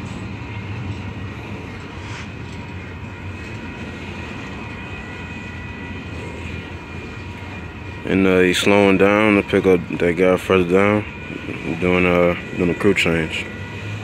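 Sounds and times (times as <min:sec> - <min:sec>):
faint steady high tones: 0:00.0 - 0:14.0
freight train rumbling: 0:00.0 - 0:14.0.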